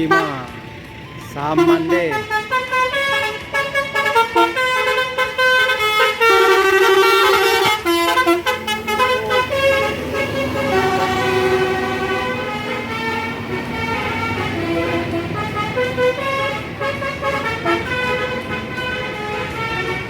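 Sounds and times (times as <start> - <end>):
musical air horns playing tune: 0.0 - 20.0.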